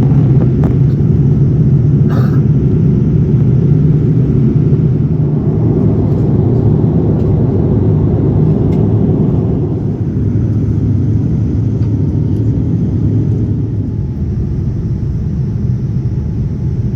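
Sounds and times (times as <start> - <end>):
airliner engines and airflow rumble: 0.0 - 16.9.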